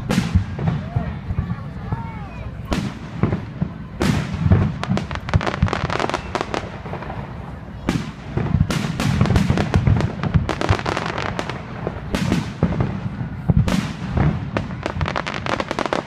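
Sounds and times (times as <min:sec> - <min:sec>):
deep booms of fireworks shells: 0:00.0 - 0:16.0
fireworks crackling pops: 0:00.0 - 0:16.0.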